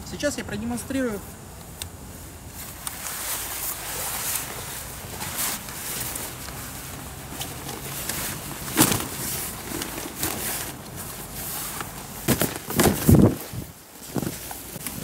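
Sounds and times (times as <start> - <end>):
fabric rustling and swishing: 2.1 - 15.0.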